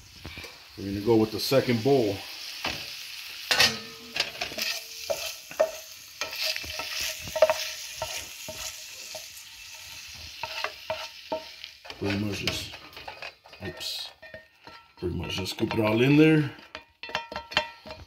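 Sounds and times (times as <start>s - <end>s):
faint sizzle: 0.0s - 16.8s
spatula scraping a frying pan: 2.4s - 18.0s.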